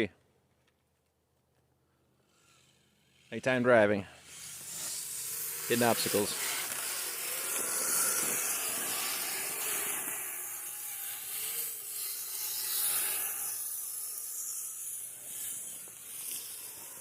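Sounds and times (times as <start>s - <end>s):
toy vehicle tracks churning snow: 2.2s - 17.0s.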